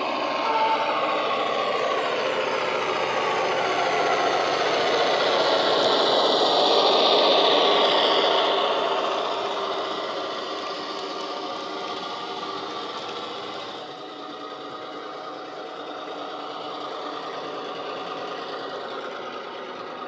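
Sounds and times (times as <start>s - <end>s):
model diesel engine sound: 0.0s - 20.0s.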